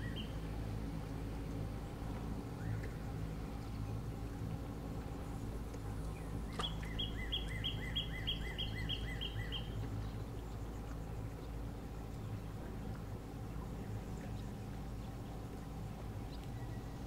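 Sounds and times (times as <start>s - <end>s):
songbird singing: 0.0s - 17.0s
steady low hum: 0.0s - 17.0s.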